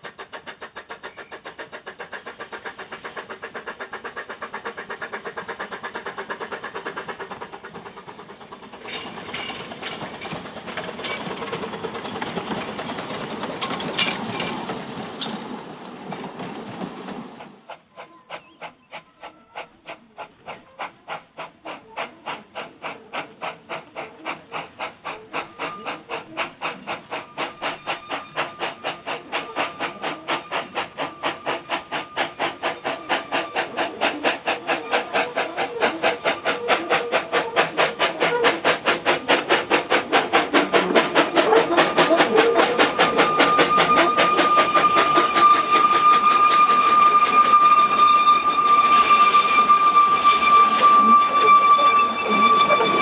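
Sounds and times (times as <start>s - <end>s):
steam locomotive exhaust beats: 0.0s - 53.0s
train wheels clattering on rails: 0.0s - 53.0s.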